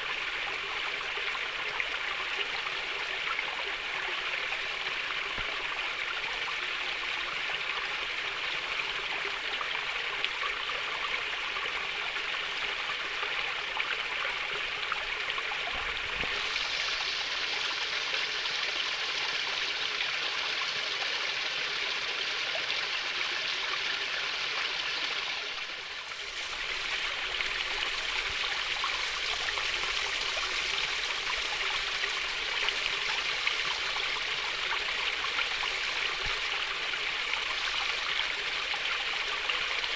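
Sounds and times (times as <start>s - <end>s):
stream water trickling and babbling: 0.0s - 39.9s.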